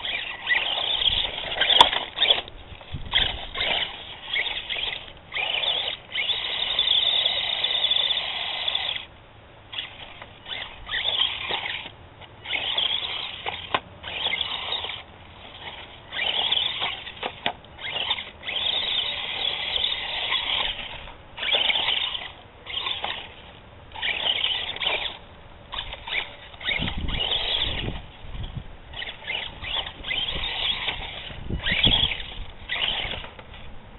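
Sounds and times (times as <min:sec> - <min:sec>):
toy truck electric motor whining: 0:00.0 - 0:09.1, 0:09.7 - 0:33.7.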